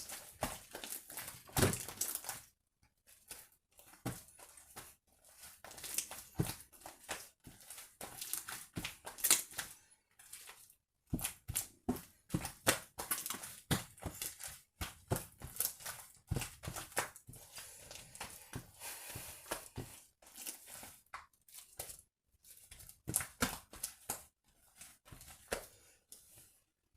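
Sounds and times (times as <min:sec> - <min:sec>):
slime kneaded by hand: 0:00.0 - 0:26.9.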